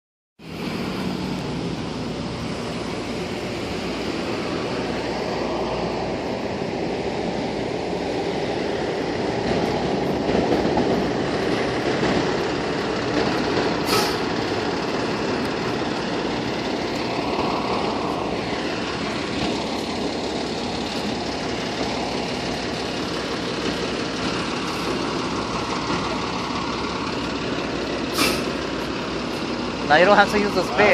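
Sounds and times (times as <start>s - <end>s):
diesel engine running: 0.4s - 30.9s.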